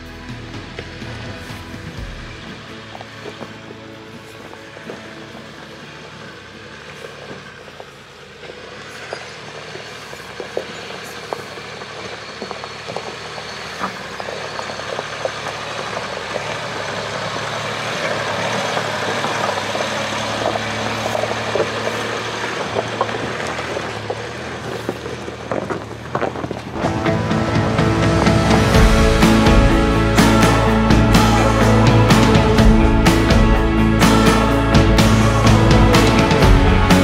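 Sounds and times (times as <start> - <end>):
diesel engine pulling uphill: 0.0 - 37.0.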